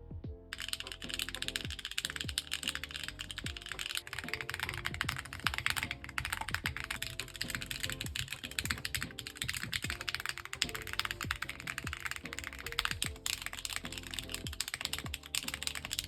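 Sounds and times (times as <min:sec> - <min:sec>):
background music: 0:00.0 - 0:16.0
mechanical keyboard key clacks: 0:00.6 - 0:16.0.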